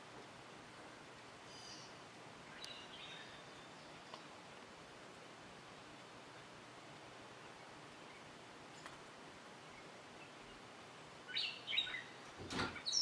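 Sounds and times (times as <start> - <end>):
faint outdoor hush: 0.0 - 13.0.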